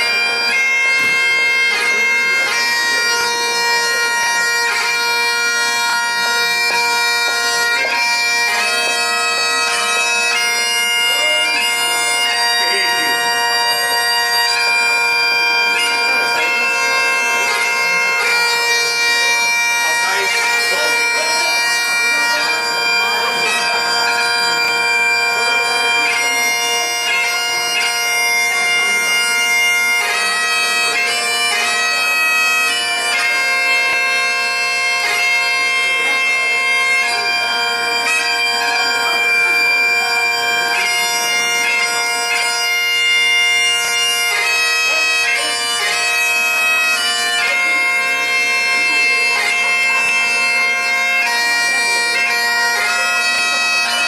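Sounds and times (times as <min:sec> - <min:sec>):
bagpipes playing a tune: 0:00.0 - 0:54.0.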